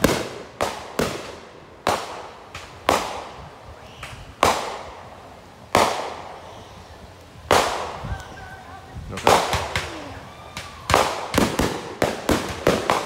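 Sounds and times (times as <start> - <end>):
fireworks bangs echoing: 0.0 - 6.8, 7.4 - 13.0.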